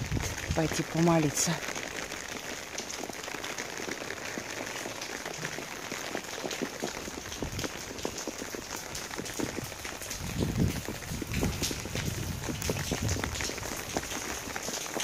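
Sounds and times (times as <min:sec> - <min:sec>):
heavy rain on stone paving: 0:00.0 - 0:15.0.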